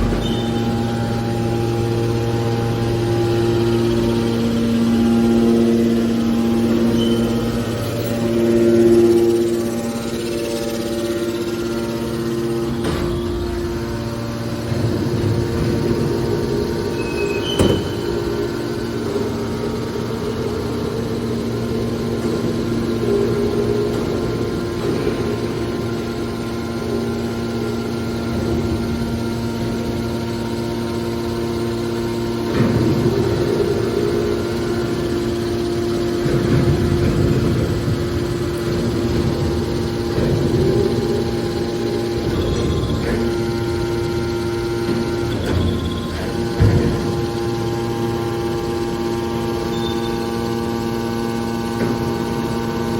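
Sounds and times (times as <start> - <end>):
hydraulic baler motor hum: 0.0 - 52.9.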